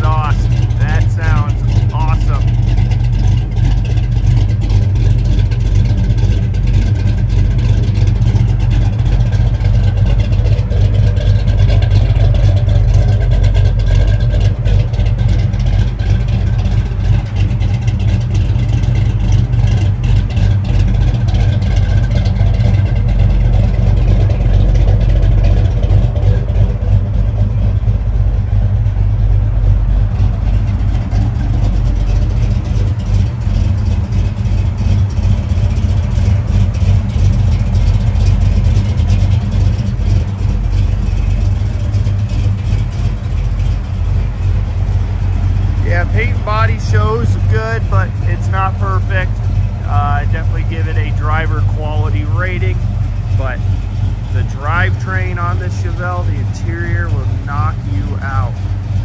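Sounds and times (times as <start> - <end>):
car engine running steadily: 0.0 - 59.0.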